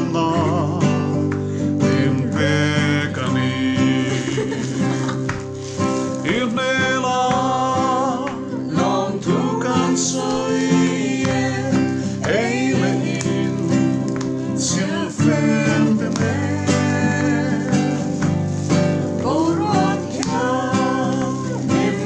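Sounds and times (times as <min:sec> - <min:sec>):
man singing lead: 0:00.0 - 0:05.2, 0:06.1 - 0:18.2, 0:19.3 - 0:22.0
acoustic guitar: 0:00.0 - 0:22.0
group singing: 0:01.8 - 0:05.1, 0:06.2 - 0:22.0.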